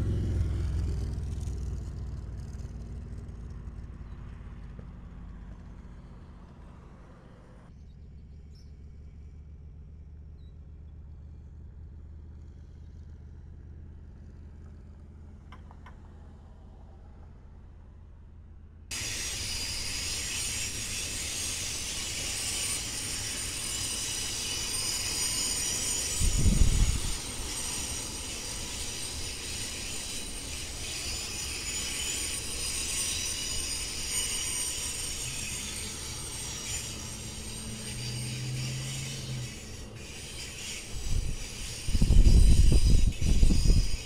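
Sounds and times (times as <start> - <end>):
diesel locomotive rumbling: 0.0 - 44.0.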